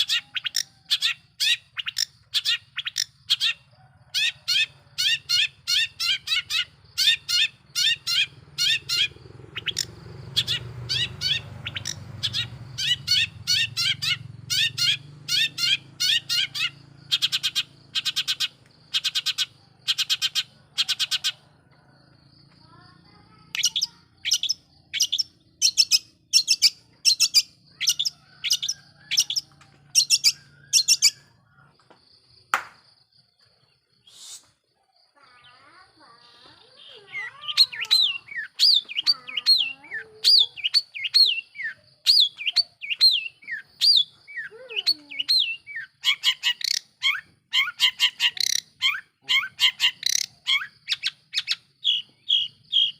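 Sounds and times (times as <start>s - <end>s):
bird singing harsh chirps: 0.0s - 21.7s, 22.3s - 31.7s, 33.6s - 52.9s.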